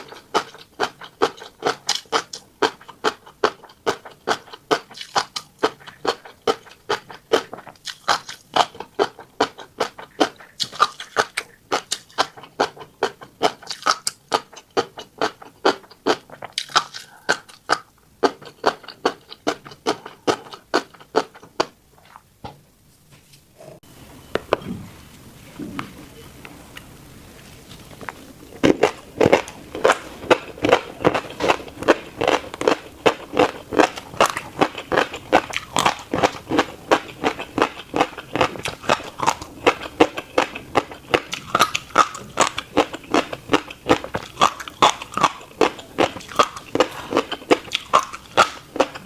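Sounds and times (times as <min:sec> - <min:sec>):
crunchy chewing of seeds: 0:00.0 - 0:22.3, 0:25.7 - 0:49.0.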